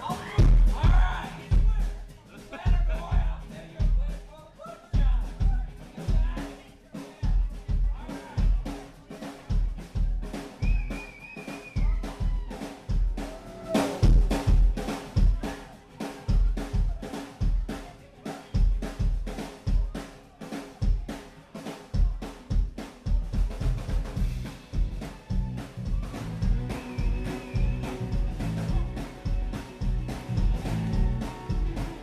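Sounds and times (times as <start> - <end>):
live band playing: 0.0 - 4.3, 5.0 - 20.1, 21.0 - 32.0
drum kit beat: 0.0 - 32.0.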